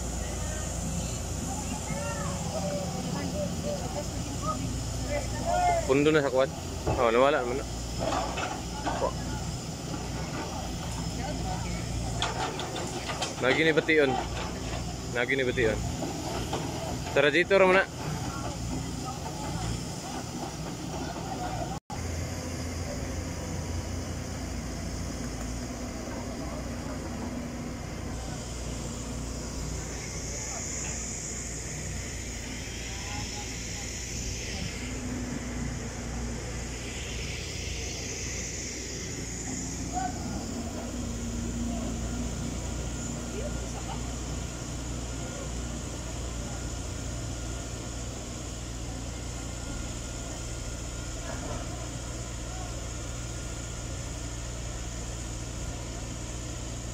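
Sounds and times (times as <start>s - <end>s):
diesel engines droning: 0.0s - 56.9s.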